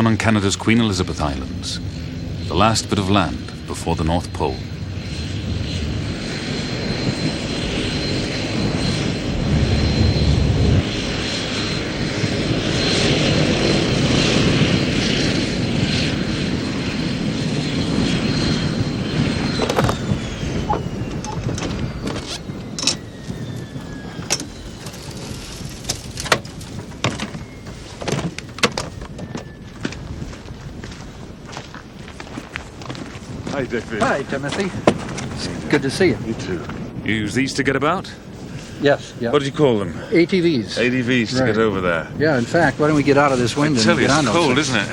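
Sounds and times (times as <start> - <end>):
aircraft engine whine: 0.0 - 44.9.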